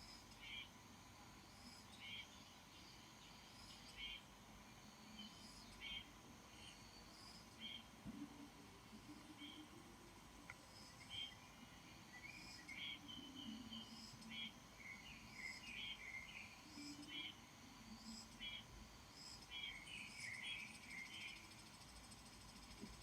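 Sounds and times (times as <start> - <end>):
faint bird chirps and warbling: 0.0 - 0.8, 1.5 - 23.0
faint insect buzz: 0.0 - 23.0.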